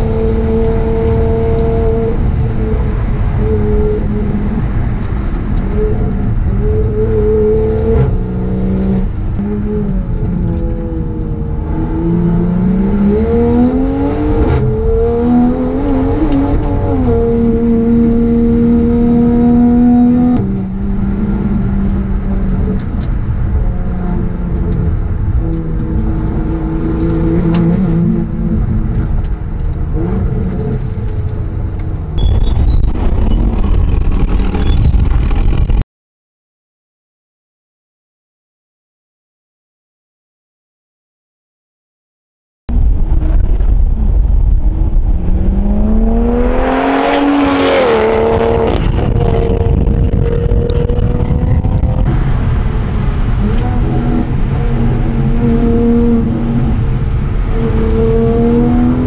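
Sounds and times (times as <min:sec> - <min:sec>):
race car engine from cabin: 0:00.0 - 0:35.8, 0:42.7 - 0:59.0.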